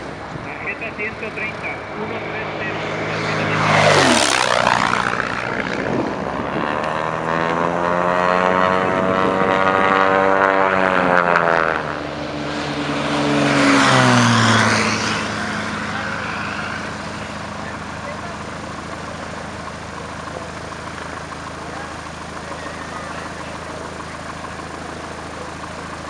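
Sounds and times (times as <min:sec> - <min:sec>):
light aircraft flying past: 0:00.6 - 0:26.0.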